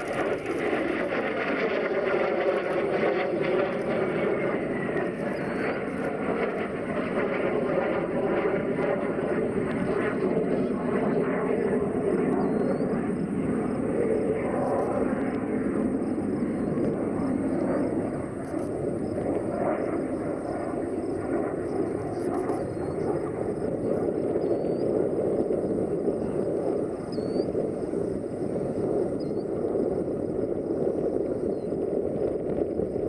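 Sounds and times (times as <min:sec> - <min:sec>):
jet engine roar overhead: 0:00.0 - 0:33.0.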